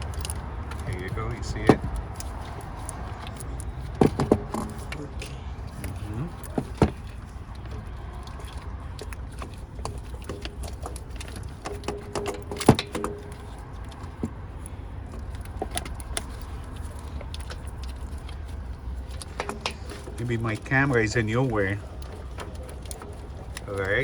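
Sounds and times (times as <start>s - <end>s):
metallic clinks and knocks: 0.0s - 24.0s.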